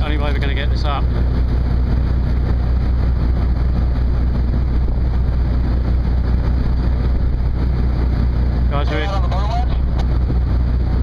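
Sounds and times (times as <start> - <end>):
constant rushing noise: 0.0 - 11.0
ship deck machinery droning: 0.0 - 11.0.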